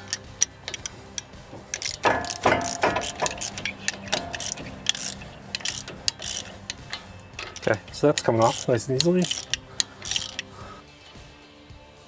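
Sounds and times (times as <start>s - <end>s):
metal clinks: 0.0s - 10.6s
socket ratchet clicking: 0.0s - 10.6s.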